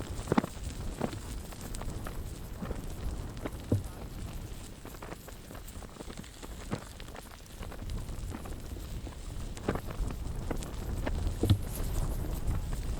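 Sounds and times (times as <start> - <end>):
wind rumbling on microphone: 0.0 - 12.9.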